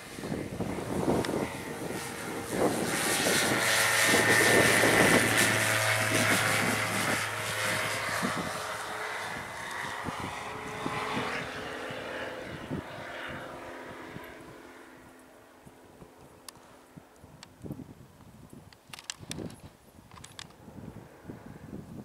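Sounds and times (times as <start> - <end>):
propeller aircraft engine: 0.0 - 17.8, 18.9 - 21.8.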